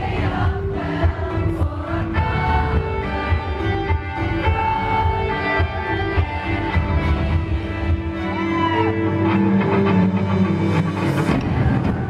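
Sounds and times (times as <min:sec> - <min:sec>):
live rock band playing: 0:00.6 - 0:12.0.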